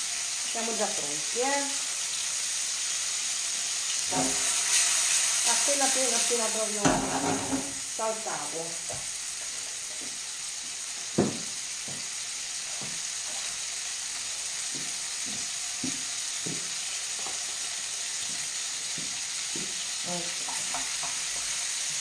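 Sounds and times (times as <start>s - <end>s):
tomatoes sizzling in a frying pan: 0.0s - 22.0s.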